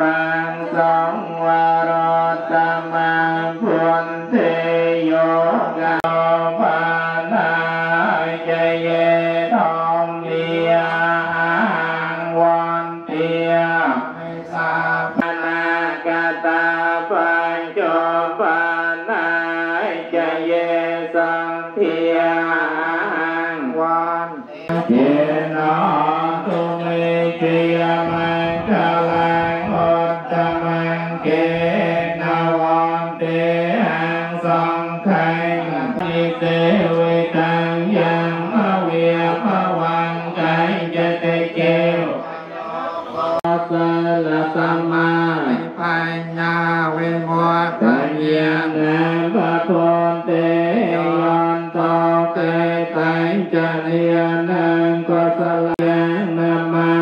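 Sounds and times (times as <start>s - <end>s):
voices chanting in unison: 0.0s - 57.0s.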